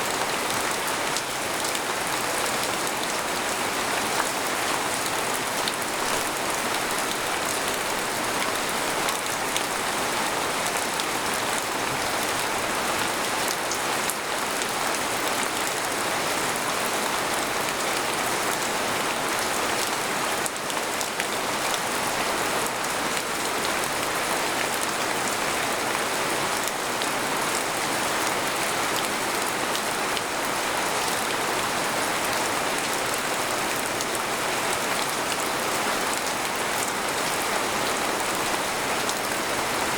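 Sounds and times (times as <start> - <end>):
rain on a tent: 0.0 - 39.9.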